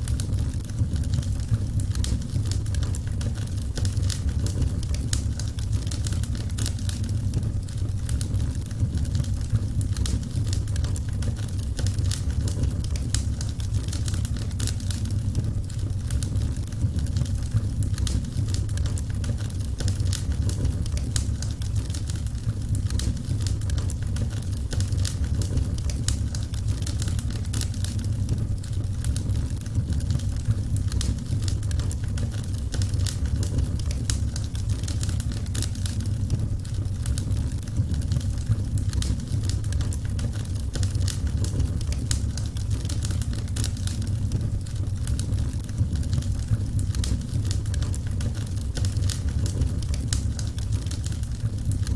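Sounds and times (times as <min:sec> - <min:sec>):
low rumble of fire: 0:00.0 - 0:51.9
wood fire crackling: 0:00.0 - 0:51.9.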